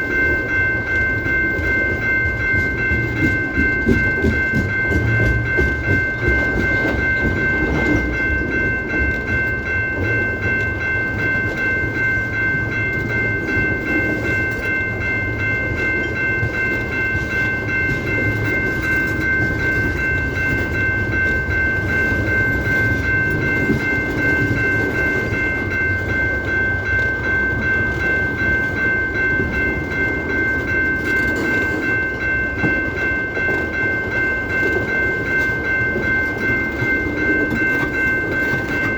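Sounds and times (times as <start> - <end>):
railroad cars rumbling past: 0.0 - 38.9.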